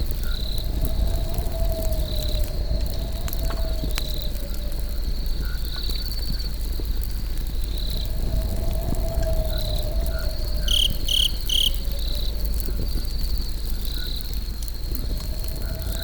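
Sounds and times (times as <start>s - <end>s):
campfire crackling and hissing: 0.0s - 16.0s
crickets chirping: 0.0s - 16.0s.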